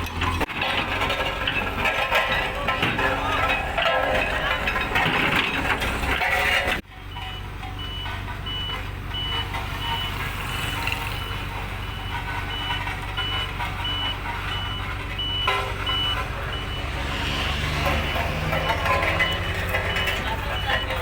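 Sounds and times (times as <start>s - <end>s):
truck engine running: 0.0s - 21.0s
truck reversing alarm beeping: 0.1s - 21.0s.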